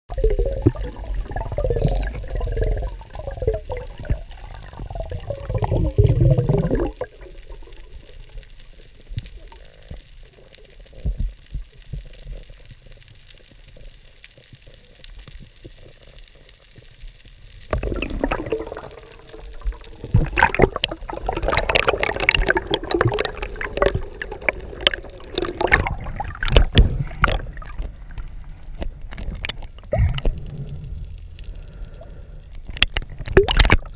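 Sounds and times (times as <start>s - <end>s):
water splashing and gurgling: 0.1s - 14.2s, 14.8s - 33.9s
underwater rush and bubbling: 0.1s - 33.9s.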